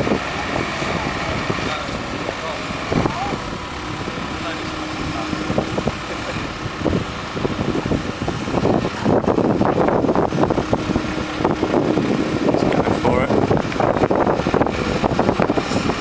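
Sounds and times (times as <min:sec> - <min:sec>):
diesel engine running: 0:00.0 - 0:16.0
wind noise on microphone: 0:00.0 - 0:16.0.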